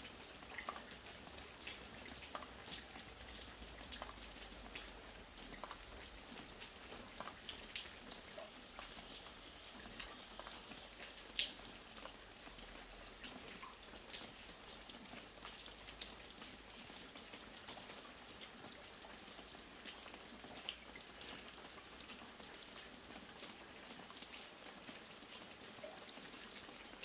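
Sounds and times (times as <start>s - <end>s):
drops dripping from roof edge: 0.0s - 27.0s
light rain falling: 0.0s - 27.0s.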